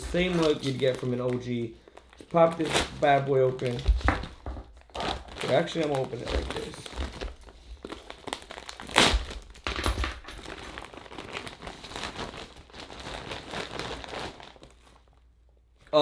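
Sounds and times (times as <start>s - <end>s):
plastic bag crinkling: 0.0s - 15.3s.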